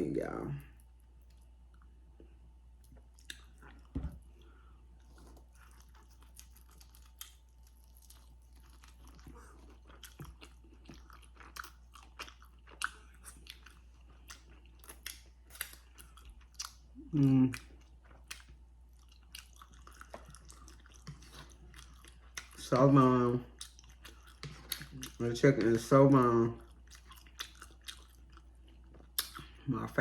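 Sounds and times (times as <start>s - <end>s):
crunchy chewing: 2.8s - 16.9s, 17.5s - 25.9s, 26.6s - 29.6s.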